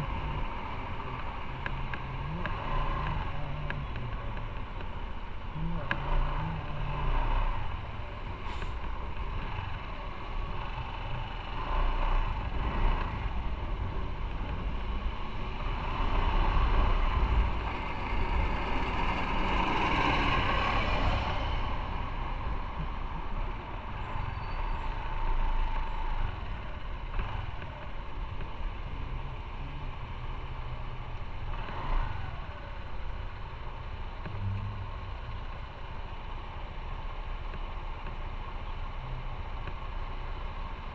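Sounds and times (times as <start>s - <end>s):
motorcycle engine and road rumble: 0.0s - 40.9s.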